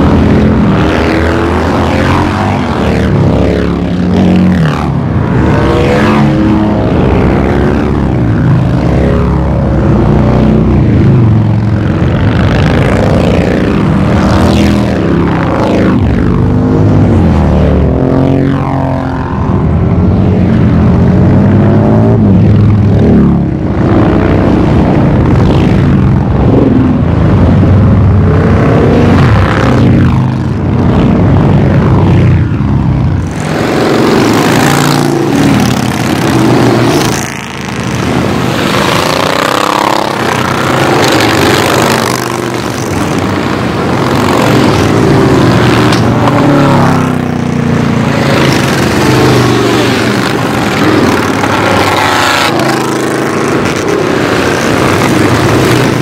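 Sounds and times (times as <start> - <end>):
motorcycles riding past: 0.0 - 56.0.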